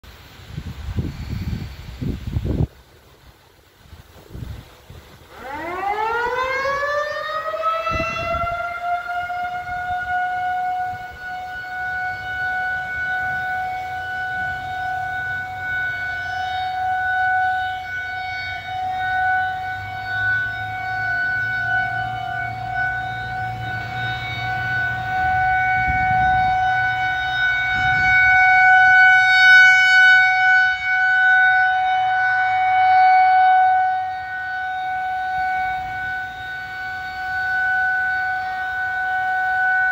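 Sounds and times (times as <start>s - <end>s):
warning siren: 3.8s - 39.9s.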